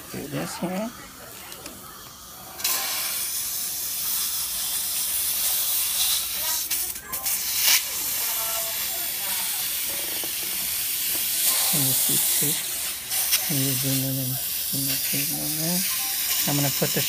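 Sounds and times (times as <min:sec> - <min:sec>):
air-water syringe hissing: 0:02.5 - 0:17.0.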